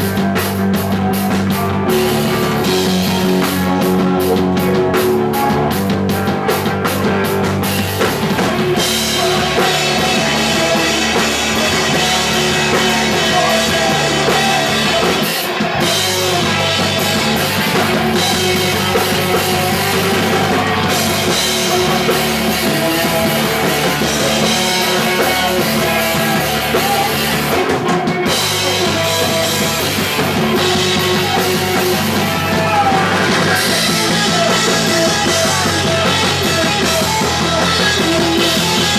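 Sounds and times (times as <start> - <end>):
person singing: 0.0 - 38.9
punk rock band playing live: 0.0 - 38.9.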